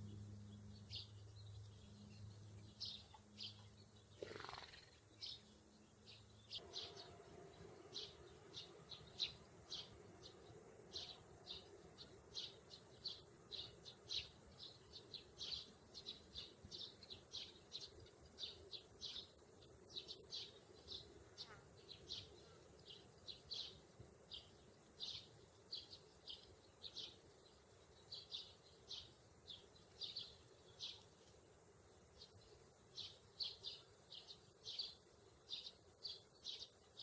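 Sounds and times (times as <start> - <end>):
faint steady hum: 0.0 - 37.0
sparrows chirping: 0.0 - 37.0.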